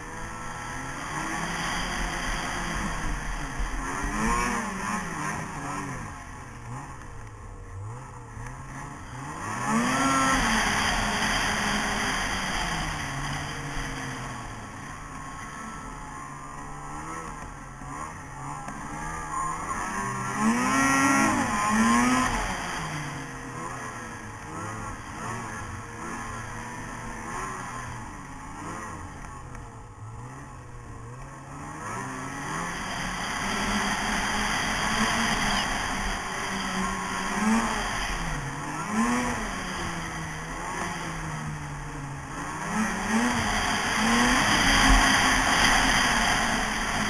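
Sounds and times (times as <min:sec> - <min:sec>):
snowmobile engine revving: 0:00.0 - 0:47.0.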